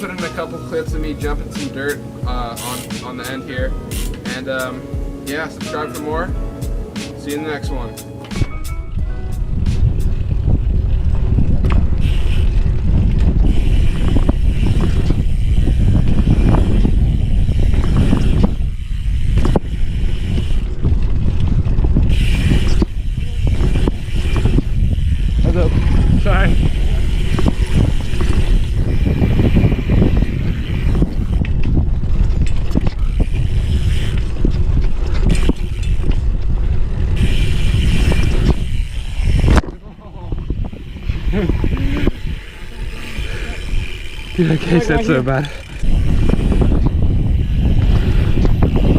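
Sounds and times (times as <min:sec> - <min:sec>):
bike clicks and knocks: 0:00.0 - 0:04.8, 0:09.5 - 0:48.9
bike riding on dirt: 0:00.0 - 0:48.9
wind buffeting microphone: 0:00.0 - 0:48.9.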